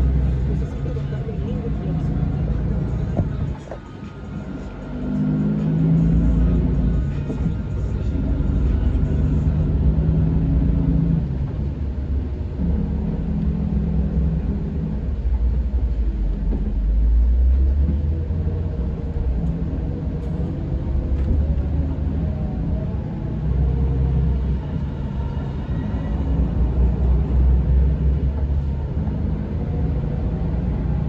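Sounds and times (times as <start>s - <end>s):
bus diesel engine rumbling: 0.0s - 31.0s.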